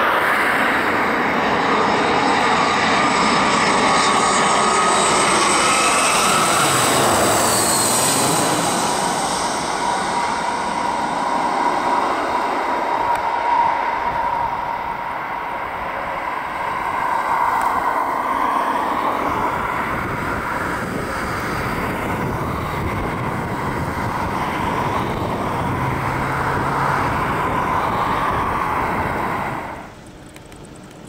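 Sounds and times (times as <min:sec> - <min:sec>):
jet engines rushing with whine: 0:00.0 - 0:31.0.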